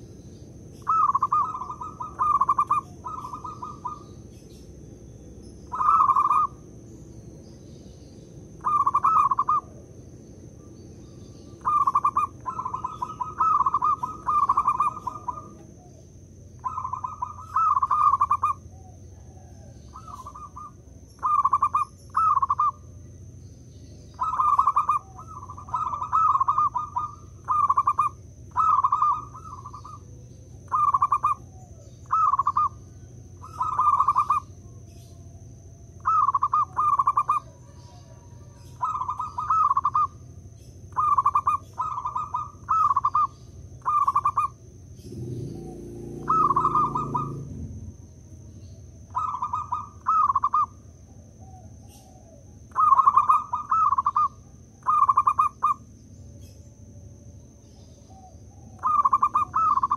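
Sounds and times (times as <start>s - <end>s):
dove cooing: 0.8s - 4.4s, 5.6s - 6.8s, 8.4s - 56.6s, 57.6s - 59.9s.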